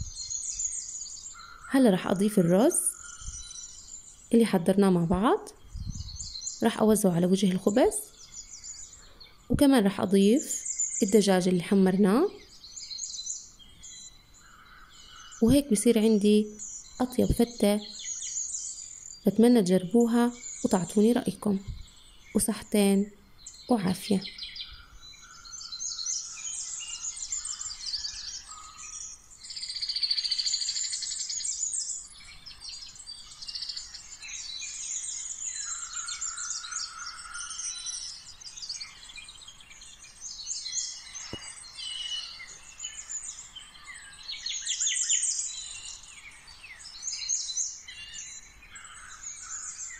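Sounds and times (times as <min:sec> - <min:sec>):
small birds chirping and twittering: 0:00.0 - 0:49.9.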